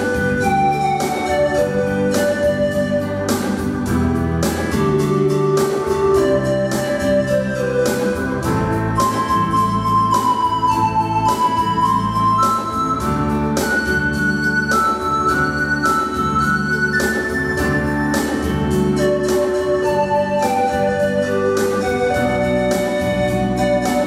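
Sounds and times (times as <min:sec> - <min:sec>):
keyboard melody over chords: 0:00.0 - 0:24.0
steady electronic beat: 0:00.0 - 0:24.0.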